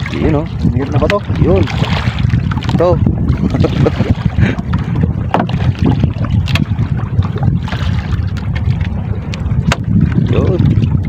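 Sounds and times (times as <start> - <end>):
water sloshing along boat hull: 0.0 - 11.0
wind buffeting microphone: 0.0 - 11.0.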